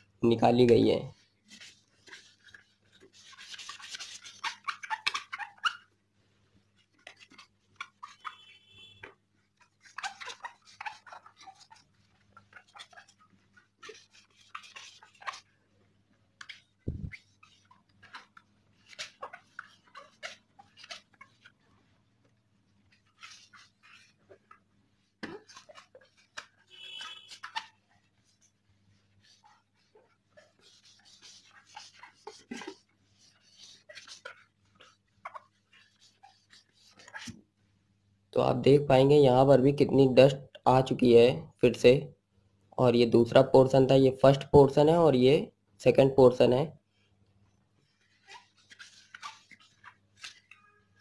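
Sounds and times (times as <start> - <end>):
cloth wiping plastic helmet: 0.0 - 37.9, 46.3 - 51.0.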